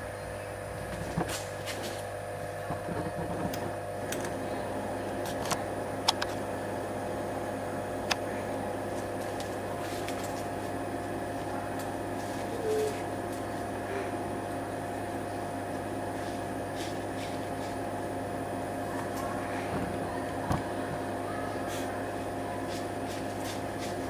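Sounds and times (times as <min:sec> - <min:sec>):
machine mechanical hum: 0:00.0 - 0:24.0.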